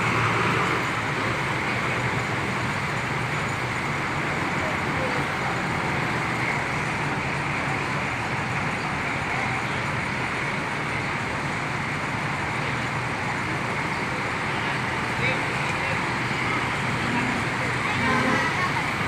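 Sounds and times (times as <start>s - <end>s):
bus diesel engine idling: 0.0s - 19.0s
busy bus terminal noise: 0.0s - 19.0s.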